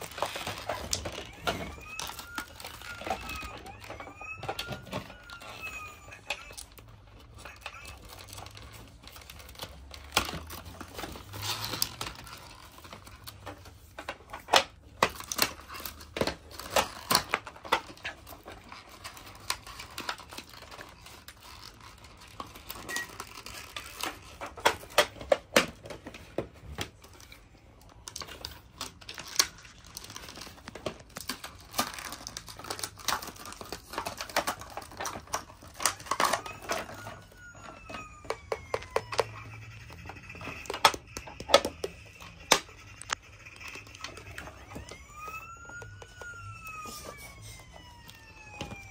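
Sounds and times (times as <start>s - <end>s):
packaging crinkling and crackling: 0.0s - 48.9s.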